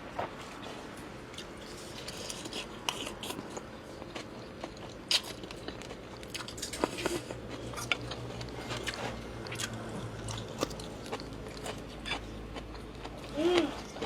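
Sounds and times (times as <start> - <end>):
person chewing and biting: 1.3 - 14.0.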